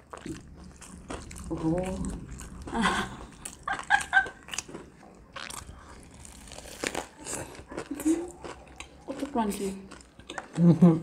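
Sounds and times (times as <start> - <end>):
crunchy bites and chewing: 0.0 - 10.6.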